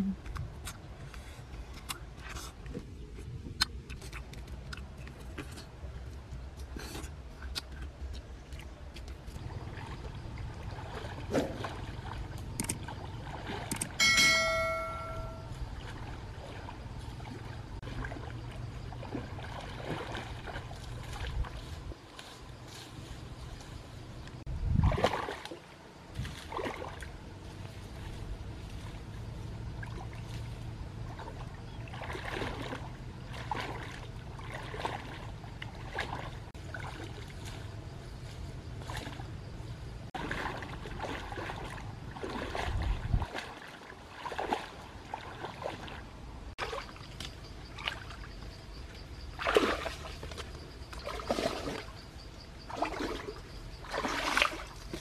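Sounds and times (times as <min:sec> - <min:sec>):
wading through shallow water: 0:00.0 - 0:55.0.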